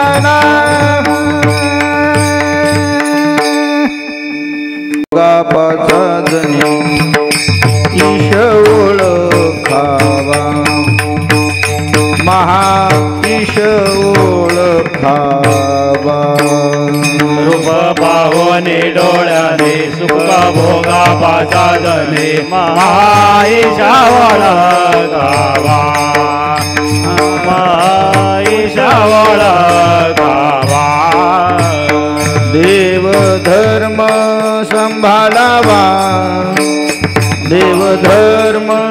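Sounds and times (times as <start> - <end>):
drum: 0.0 - 4.1, 5.5 - 38.8
hand cymbals clashing: 0.0 - 5.1, 5.9 - 38.9
lead singer gliding melody: 0.0 - 38.9.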